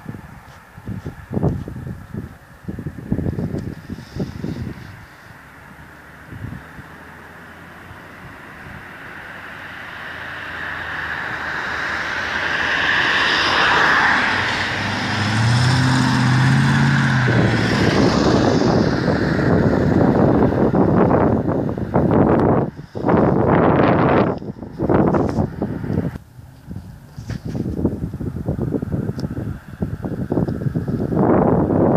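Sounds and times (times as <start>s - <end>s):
wind buffeting microphone: 0.0s - 9.3s, 9.9s - 31.9s
car engine and road noise: 0.0s - 31.9s.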